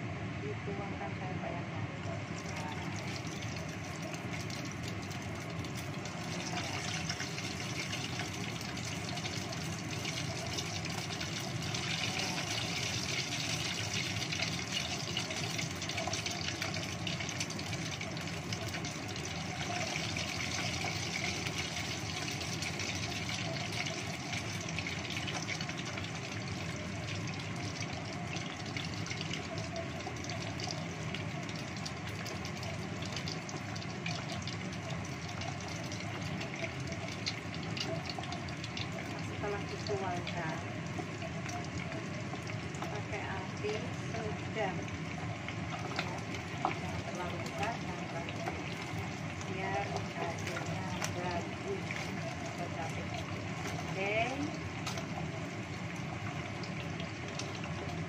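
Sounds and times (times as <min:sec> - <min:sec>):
extractor fan humming: 0:00.0 - 0:58.0
oil sizzling and bubbling: 0:00.0 - 0:58.0.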